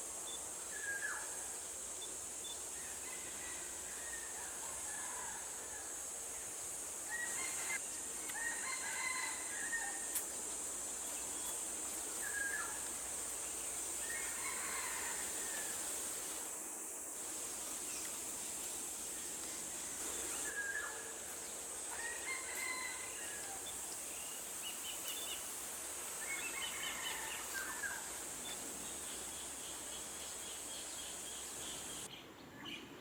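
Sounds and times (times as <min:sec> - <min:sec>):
high-pitched background hiss: 0:00.0 - 0:33.0.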